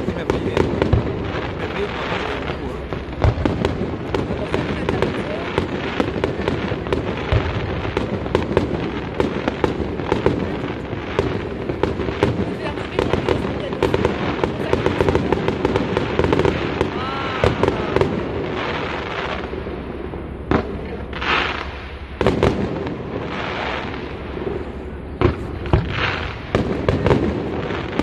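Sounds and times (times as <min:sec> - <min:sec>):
fireworks crackling pops: 0:00.0 - 0:28.0
hissing crackle: 0:00.0 - 0:28.0.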